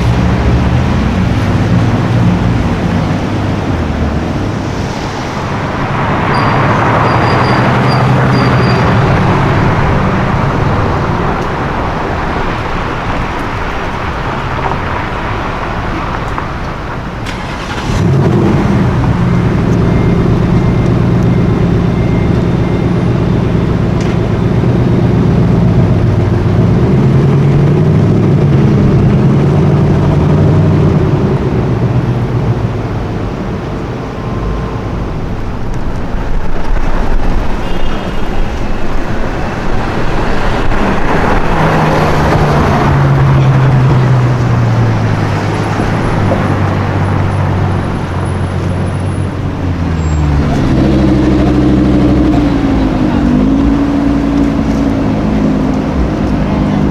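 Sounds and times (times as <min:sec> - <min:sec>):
car engines in traffic: 0:00.0 - 0:56.9
car passing close by: 0:00.0 - 0:56.9.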